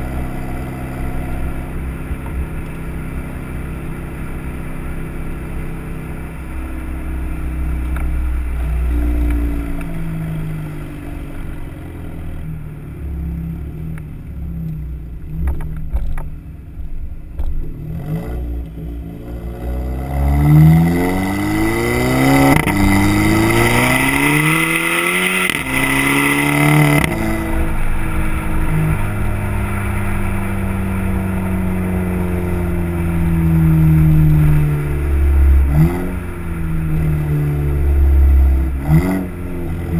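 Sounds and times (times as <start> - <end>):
turbocharged car engine accelerating: 0.0 - 39.9.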